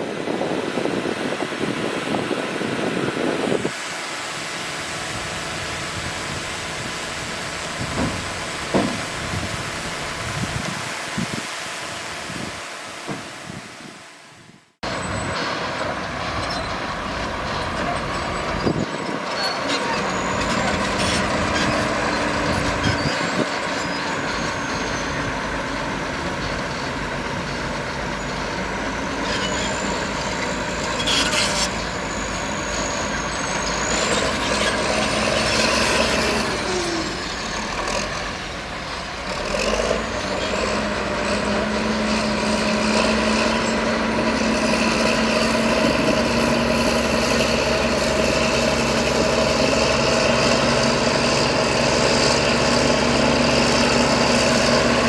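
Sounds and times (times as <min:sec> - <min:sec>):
heavy machinery engine running: 0:00.0 - 0:13.4, 0:14.8 - 0:55.0.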